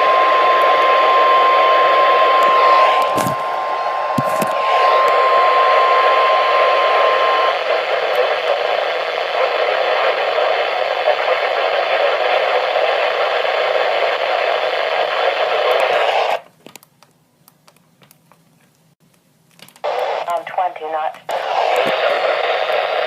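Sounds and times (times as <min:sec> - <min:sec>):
radio static hiss: 0:00.0 - 0:16.5, 0:19.8 - 0:23.0
static crackles: 0:00.0 - 0:16.5, 0:19.7 - 0:23.0.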